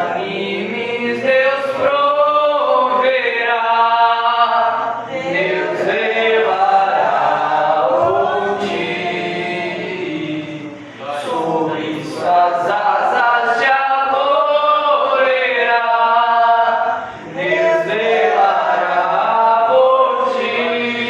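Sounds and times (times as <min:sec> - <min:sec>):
man singing a hymn: 0:00.0 - 0:21.0.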